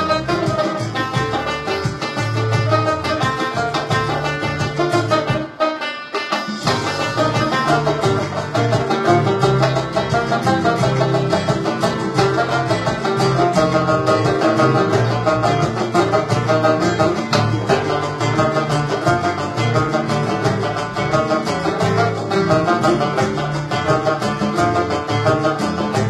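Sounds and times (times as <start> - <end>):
steady bass line: 0.0 - 5.5, 6.6 - 26.0
banjo picked in fast runs: 0.0 - 26.0
flamenco backing track: 0.0 - 26.0.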